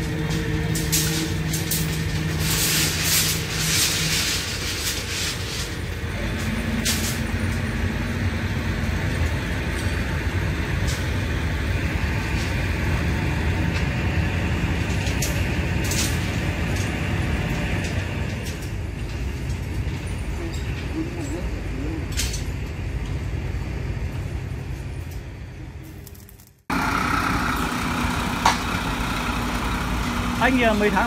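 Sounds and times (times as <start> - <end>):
machinery engine rumble: 0.0 - 31.0.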